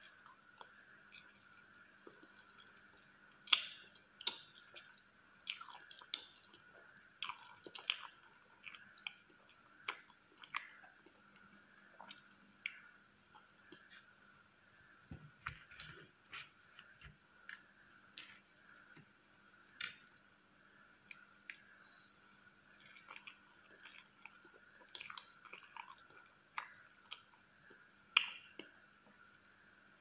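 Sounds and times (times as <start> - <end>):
chewing soft cake: 0.0 - 29.6.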